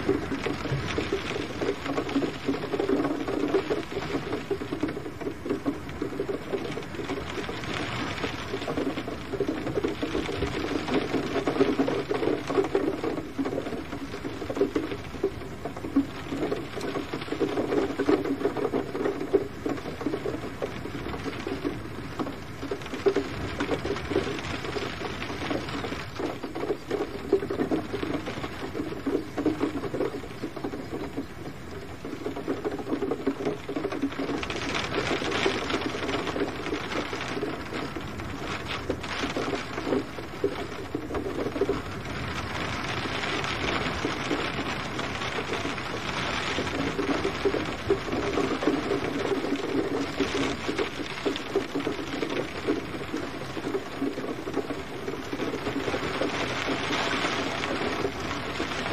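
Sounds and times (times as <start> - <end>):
raindrops ticking on a surface: 0.0 - 58.9.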